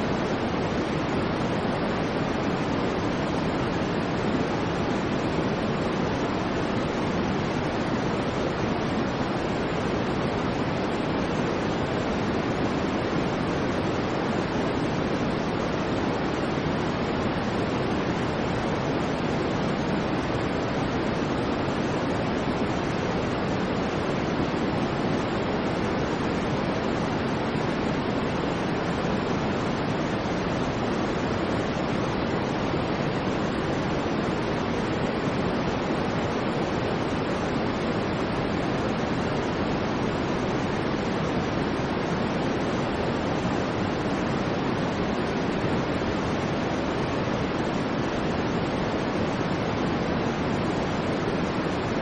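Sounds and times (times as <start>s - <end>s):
steady synthetic noise: 0.0s - 52.0s.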